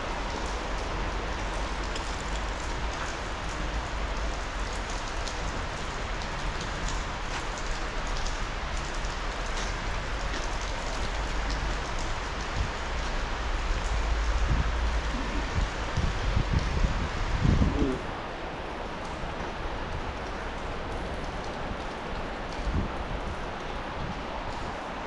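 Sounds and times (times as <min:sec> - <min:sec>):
rain hissing: 0:00.0 - 0:25.0.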